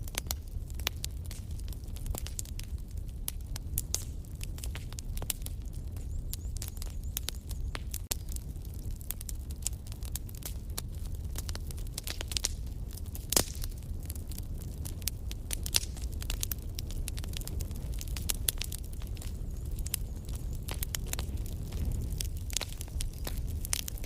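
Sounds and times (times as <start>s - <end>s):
fire pops and snaps: 0.0s - 24.0s
low rumble of flames: 0.0s - 24.0s
wood fire crackling: 0.0s - 24.0s.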